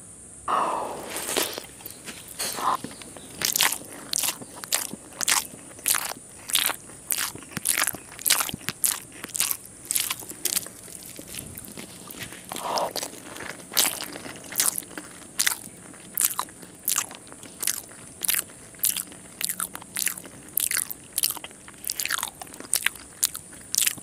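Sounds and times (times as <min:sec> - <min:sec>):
crunchy chewing: 0:00.5 - 0:24.0.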